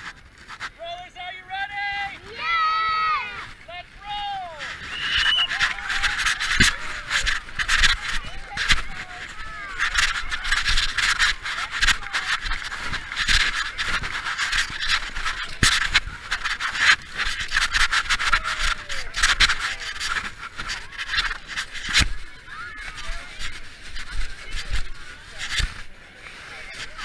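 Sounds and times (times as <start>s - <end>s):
clothing rubbing on microphone: 0.0s - 0.8s, 1.9s - 27.0s.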